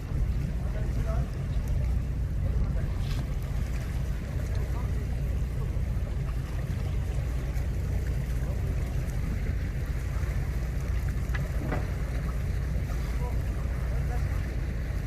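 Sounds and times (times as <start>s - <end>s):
faint sea noise: 0.0s - 15.0s
wind buffeting microphone: 0.0s - 15.0s.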